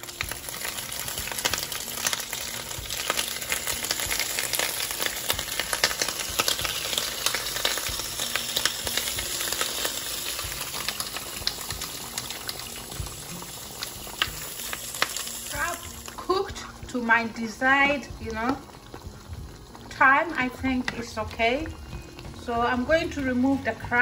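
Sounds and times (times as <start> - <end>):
stew simmering with sizzling pops: 0.0 - 24.0.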